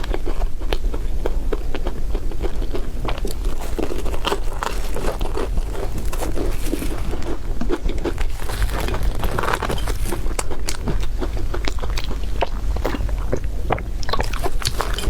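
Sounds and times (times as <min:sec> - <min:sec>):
crispy bread crunching: 0:00.0 - 0:15.0
steady low hum: 0:00.0 - 0:15.0.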